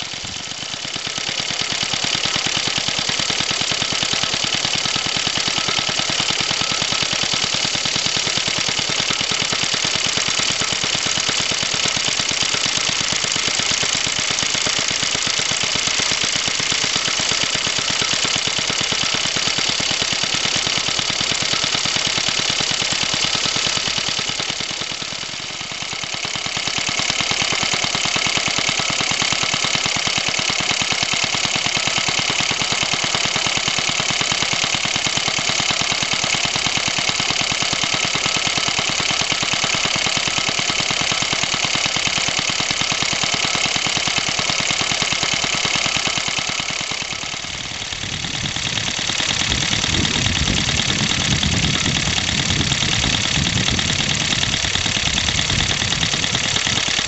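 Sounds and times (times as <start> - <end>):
two-stroke engine running: 0.0 - 57.0.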